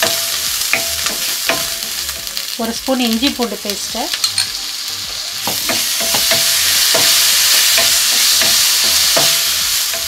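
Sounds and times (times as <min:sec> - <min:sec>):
paste sizzling in hot oil: 0:00.0 - 0:10.0.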